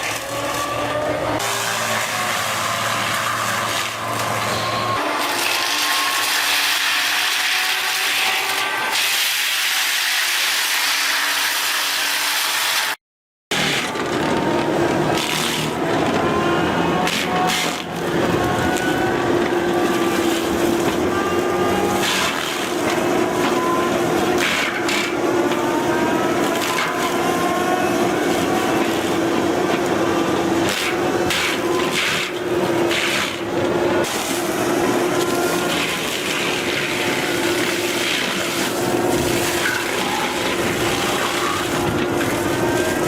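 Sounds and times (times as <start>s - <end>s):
heavy machine running under load: 0.0s - 8.5s, 13.5s - 43.0s.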